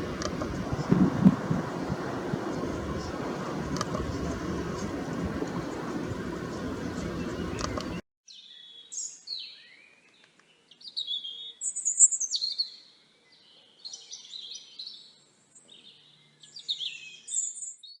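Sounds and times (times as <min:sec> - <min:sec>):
songbird singing: 0:00.0 - 0:17.8.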